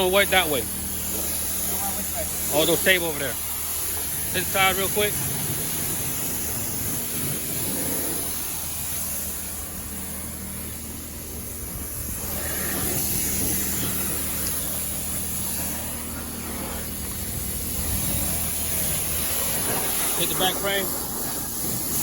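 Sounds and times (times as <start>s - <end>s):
pressure washer spraying water: 0.0s - 22.0s.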